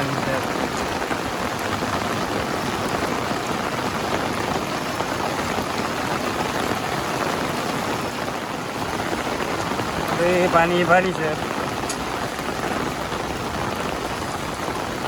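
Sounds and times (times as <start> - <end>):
floodwater running across a road: 0.0 - 15.0
steady rain falling: 0.0 - 15.0.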